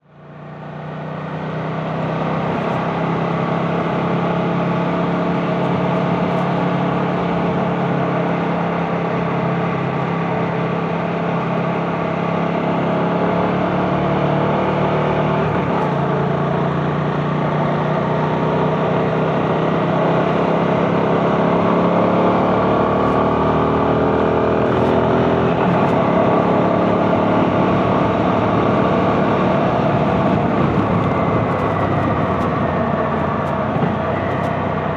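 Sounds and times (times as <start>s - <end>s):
motorcycle engine running: 0.1s - 14.0s, 14.6s - 34.9s.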